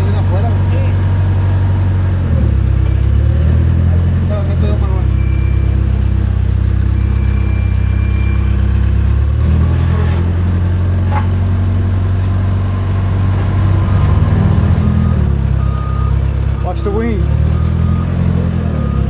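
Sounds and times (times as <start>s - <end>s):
engine idling: 0.0s - 9.4s, 10.6s - 19.0s.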